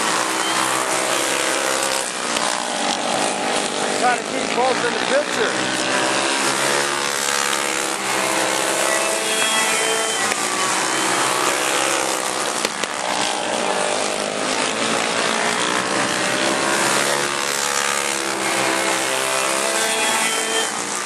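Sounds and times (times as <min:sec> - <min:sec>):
go-kart engines at high revs: 0:00.0 - 0:21.0.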